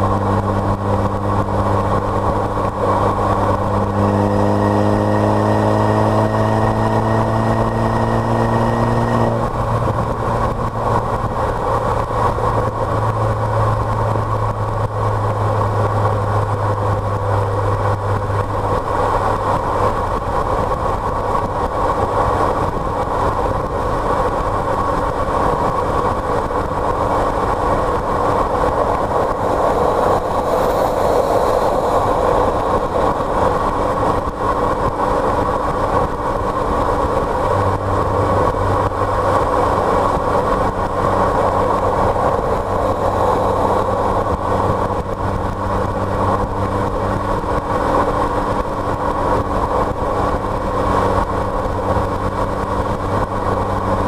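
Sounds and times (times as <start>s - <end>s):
car engine drone: 0.0s - 54.0s
low hum: 0.0s - 54.0s
road noise: 0.0s - 54.0s.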